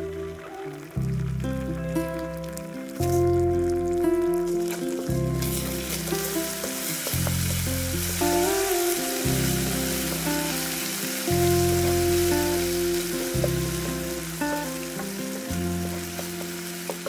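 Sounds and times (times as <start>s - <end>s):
background music with bass: 0.0s - 17.0s
oil sizzling in a wok: 1.7s - 17.0s.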